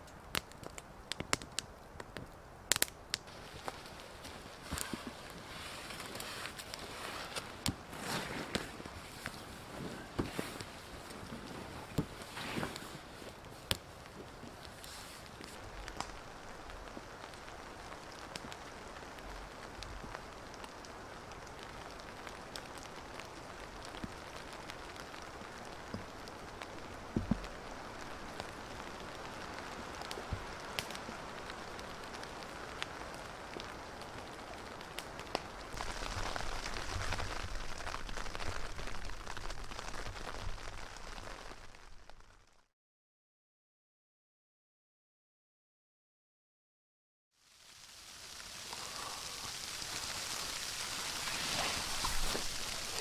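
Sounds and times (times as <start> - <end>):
rain and wet snow on a tarp: 0.0 - 42.7, 47.3 - 53.0.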